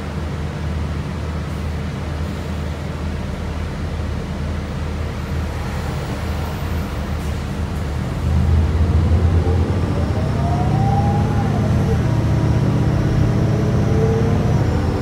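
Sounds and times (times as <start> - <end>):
bus engine running: 0.0 - 15.0
road hum: 0.0 - 15.0.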